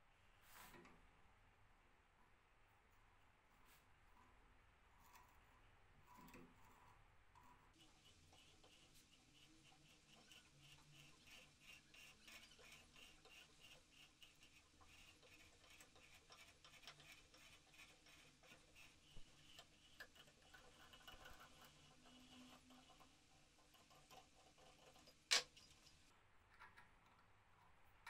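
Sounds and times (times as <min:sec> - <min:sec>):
threading die ticking and scraping: 0:05.0 - 0:28.0.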